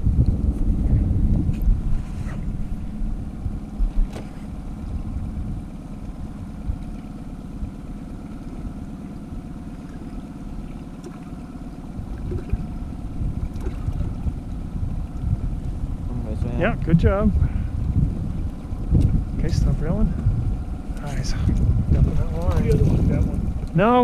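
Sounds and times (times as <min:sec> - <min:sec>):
boat motor running: 0:00.0 - 0:24.0
wind buffeting microphone: 0:00.0 - 0:24.0.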